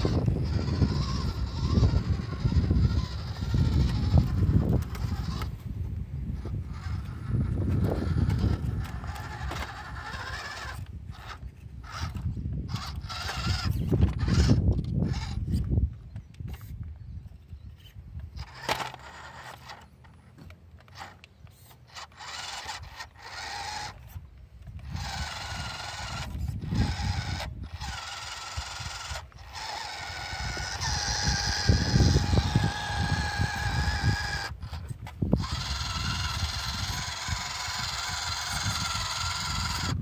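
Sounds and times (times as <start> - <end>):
electric motor and gears whining: 0.0 - 40.0.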